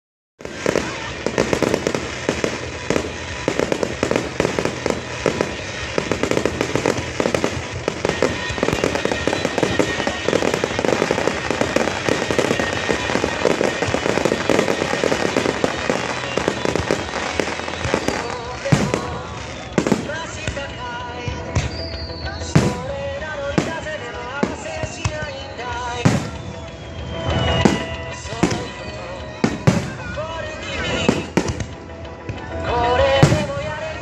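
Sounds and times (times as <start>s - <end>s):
fireworks bursts and crackling pops: 0.4s - 34.0s.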